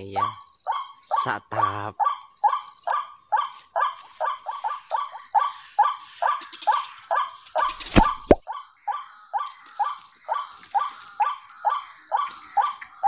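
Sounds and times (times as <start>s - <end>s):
insects hissing: 0.0s - 13.0s.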